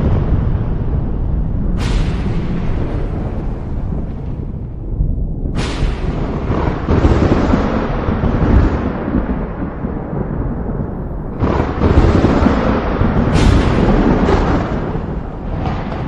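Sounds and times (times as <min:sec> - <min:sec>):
thunder rumbling: 0:00.0 - 0:16.0
thunderclap: 0:00.0 - 0:16.0.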